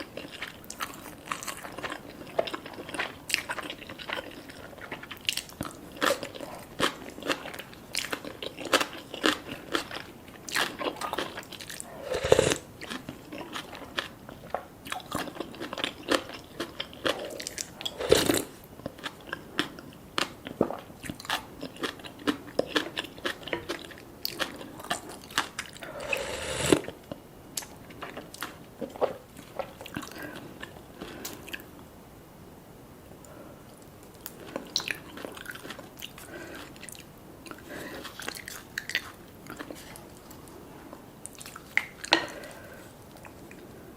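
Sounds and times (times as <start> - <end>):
person chewing food: 0.0 - 31.7, 33.2 - 43.8.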